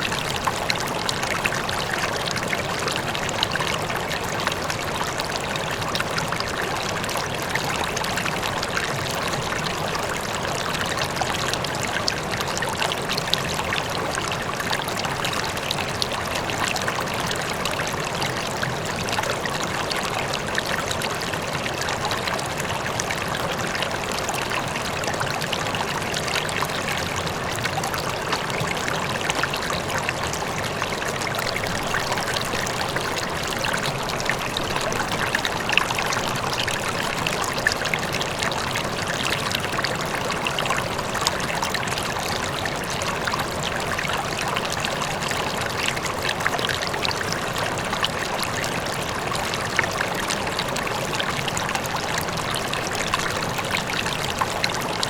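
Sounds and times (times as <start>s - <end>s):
faint distant waterfall: 0.0s - 55.0s
river water flowing over rocks: 0.0s - 55.0s.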